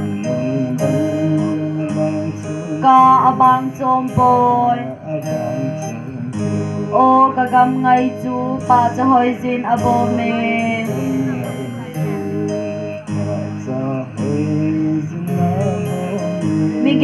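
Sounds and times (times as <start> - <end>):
acoustic guitar strumming chords: 0.0 - 17.0
man singing: 0.0 - 17.0.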